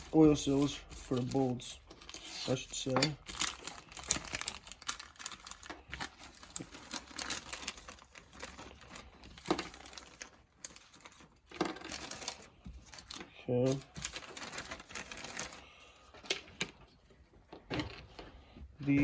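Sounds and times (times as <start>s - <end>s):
plastic bag crinkling: 0.0s - 16.8s.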